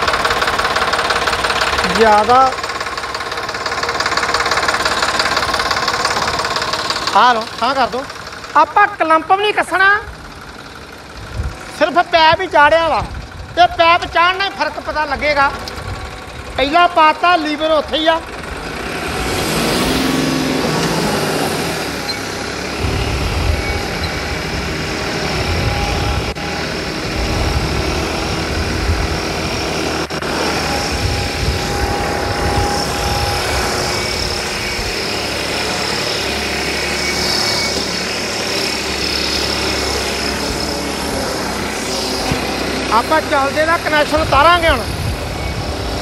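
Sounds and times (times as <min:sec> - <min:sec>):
tractor diesel engine under load: 0:00.0 - 0:46.0.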